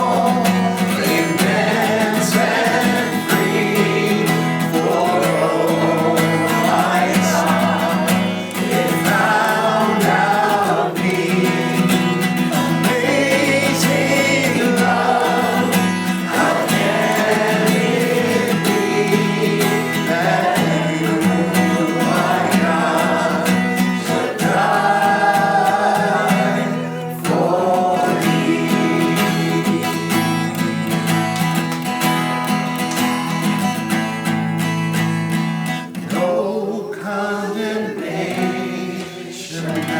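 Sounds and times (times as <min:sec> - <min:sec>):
congregation singing a hymn: 0:00.0 - 0:31.7, 0:35.9 - 0:39.9
strummed acoustic guitar: 0:00.0 - 0:39.9.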